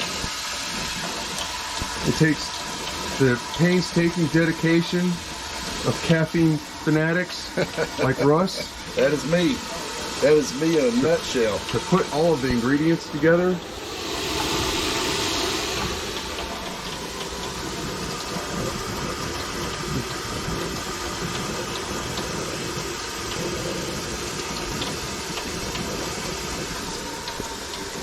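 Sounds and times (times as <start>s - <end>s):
coffee maker hissing: 0.0s - 28.0s.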